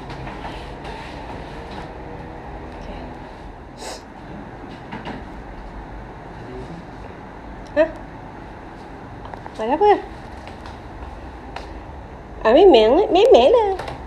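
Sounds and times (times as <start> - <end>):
low rumbling room noise: 0.0 - 14.0.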